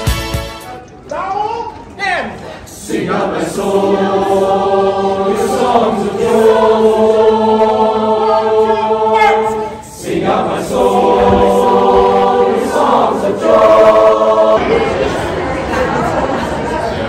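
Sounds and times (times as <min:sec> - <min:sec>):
choir singing unaccompanied: 0:02.7 - 0:17.0.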